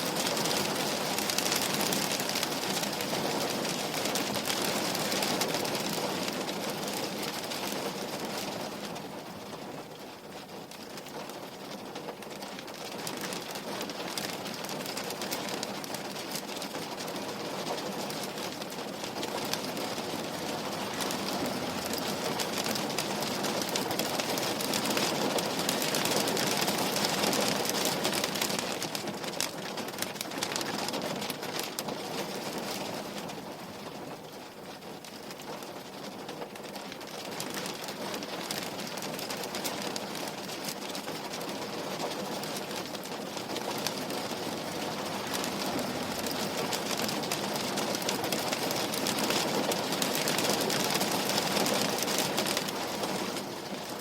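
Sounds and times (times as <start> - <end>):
rain pattering on window glass: 0.0 - 54.0.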